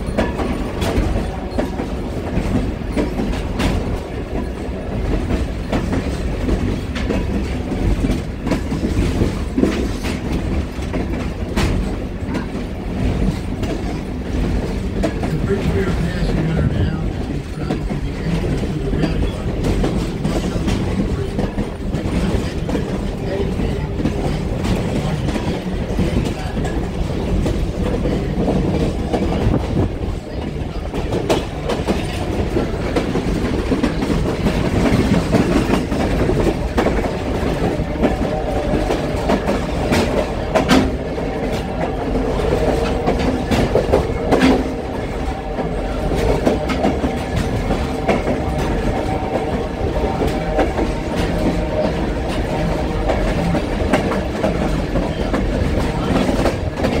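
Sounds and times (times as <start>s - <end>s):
train wheels rumbling: 0.0s - 57.0s
wheels clacking on rail joints: 0.0s - 57.0s.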